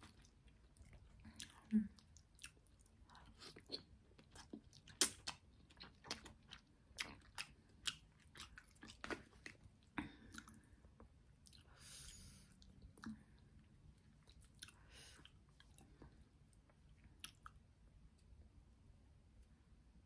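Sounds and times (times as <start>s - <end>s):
chewing with wet mouth clicks: 0.0s - 11.7s, 12.5s - 18.3s.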